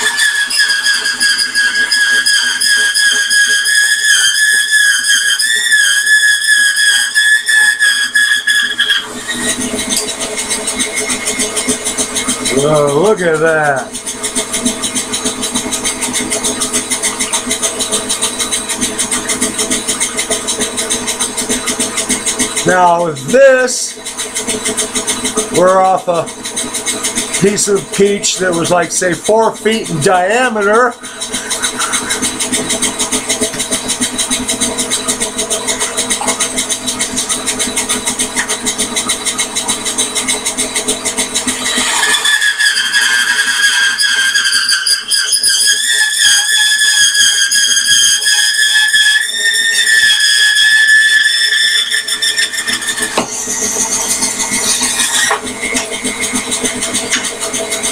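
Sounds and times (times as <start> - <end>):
bandsaw running: 0.0 - 57.9.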